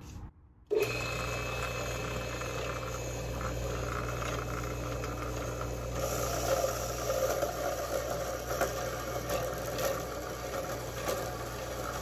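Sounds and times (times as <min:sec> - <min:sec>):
bandsaw running: 0:00.7 - 0:12.0.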